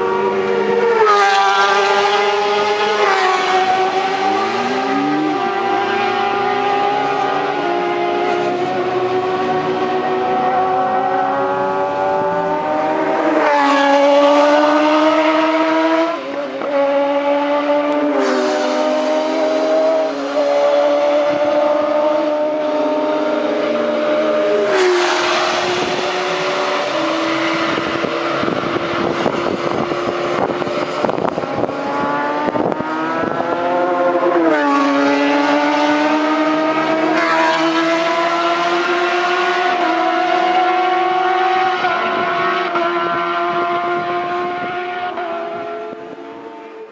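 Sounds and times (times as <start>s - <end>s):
racing motorcycle engines revving: 0.0s - 46.9s.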